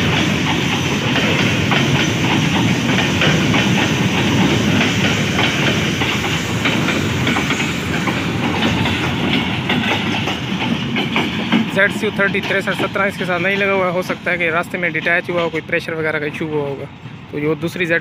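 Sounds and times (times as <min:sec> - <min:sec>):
train wheels rumbling on rails: 0:00.0 - 0:18.0
wheels clicking over rail joints: 0:00.0 - 0:18.0.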